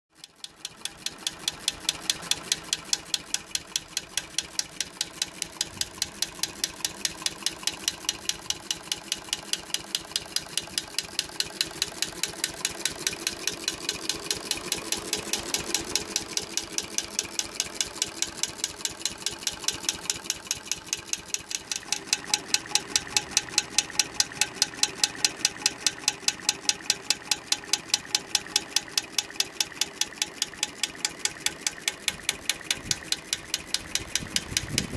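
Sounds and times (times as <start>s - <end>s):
sharp mechanical clicks: 0.2s - 34.9s.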